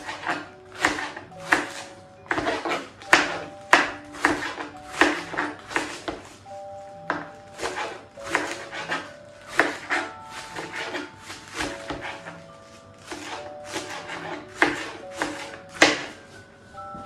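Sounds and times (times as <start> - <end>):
knife shredding cabbage: 0.0 - 16.8.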